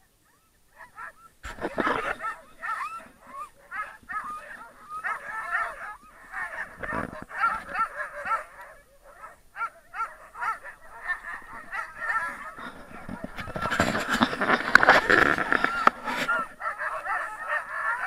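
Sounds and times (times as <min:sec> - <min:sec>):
sled dogs yelping and whining: 0:00.0 - 0:18.0.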